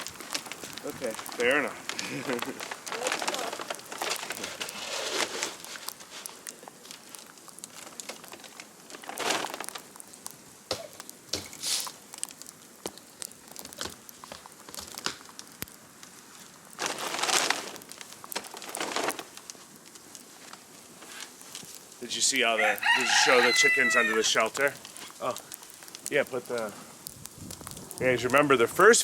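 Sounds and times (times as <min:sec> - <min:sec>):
feed bag crinkling: 0:00.0 - 0:29.0.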